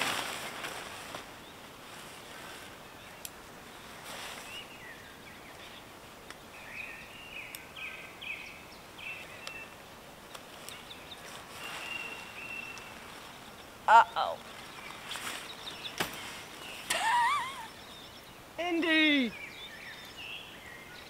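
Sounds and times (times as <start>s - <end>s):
outdoor background hiss: 0.0s - 21.0s
birds chirping: 1.1s - 21.0s.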